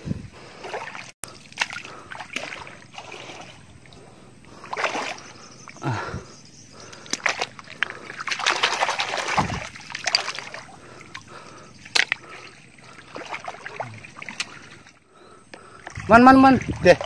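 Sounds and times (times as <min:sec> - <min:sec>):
muddy water sloshing and splashing: 0:00.0 - 0:17.0.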